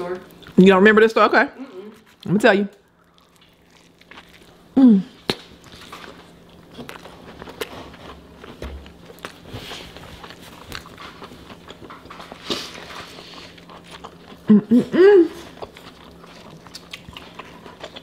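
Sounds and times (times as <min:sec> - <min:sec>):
biting and chewing burger: 0:02.0 - 0:18.0.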